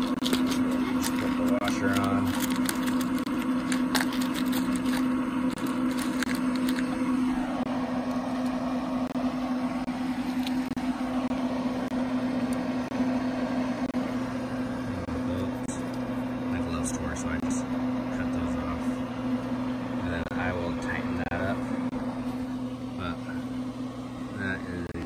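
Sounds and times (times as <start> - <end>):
pellet grill humming: 0.0 - 25.0.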